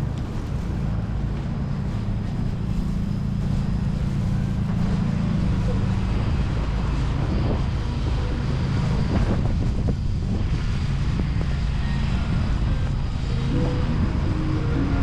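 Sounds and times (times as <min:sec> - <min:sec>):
street traffic drone: 0:00.0 - 0:15.0
wind rumbling on microphone: 0:00.0 - 0:15.0.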